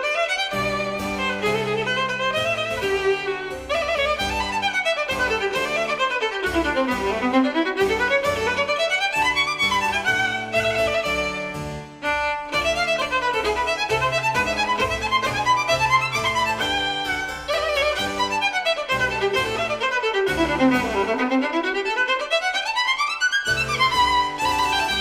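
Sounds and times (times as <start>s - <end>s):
violin playing quick runs: 0.0s - 25.0s.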